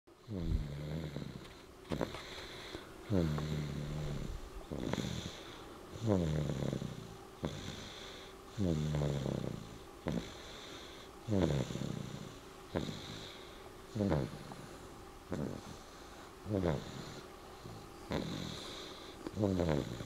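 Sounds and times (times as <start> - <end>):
child snoring: 0.2 - 20.0
breathy puffs: 0.3 - 20.0.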